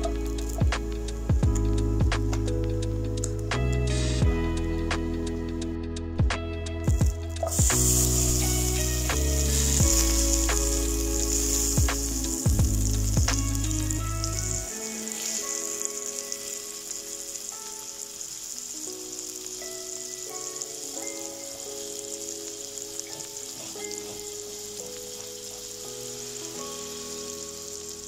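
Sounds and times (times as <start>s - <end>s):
butter sizzling in frying pan: 0.0s - 4.6s, 6.7s - 28.0s
background music: 0.0s - 28.0s.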